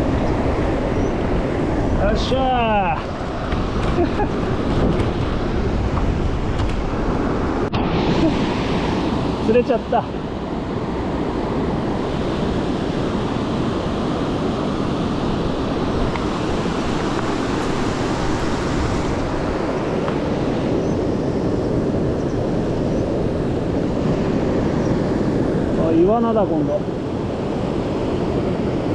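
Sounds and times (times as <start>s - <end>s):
mountain stream rushing: 0.0s - 28.9s.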